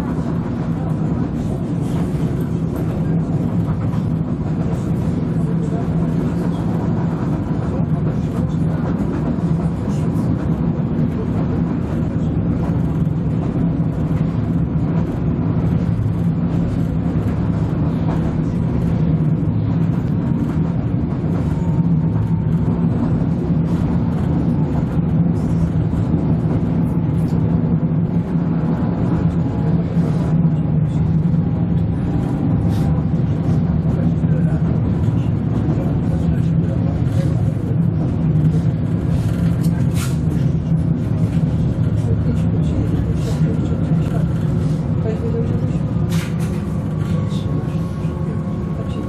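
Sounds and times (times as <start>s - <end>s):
train engine low drone: 0.0s - 49.0s
wheel and rail noise: 0.0s - 49.0s.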